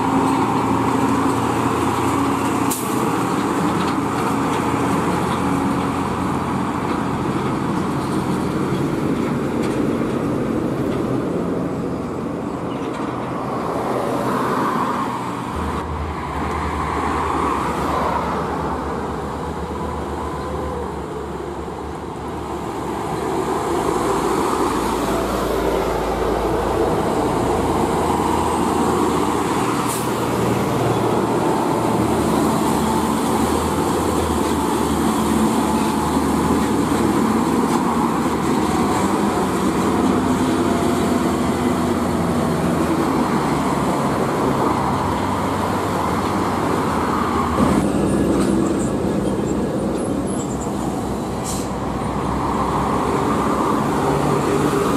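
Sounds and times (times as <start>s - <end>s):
heavy diesel trucks passing: 0.0s - 54.9s
road traffic rumble: 0.0s - 54.9s.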